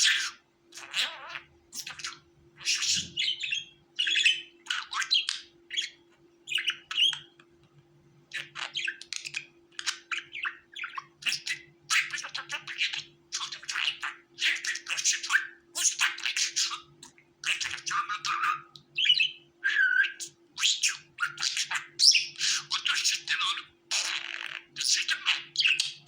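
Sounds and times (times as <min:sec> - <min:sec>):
budgerigars chirping: 0:00.0 - 0:07.3, 0:08.3 - 0:26.0
faint steady hum: 0:00.0 - 0:26.0.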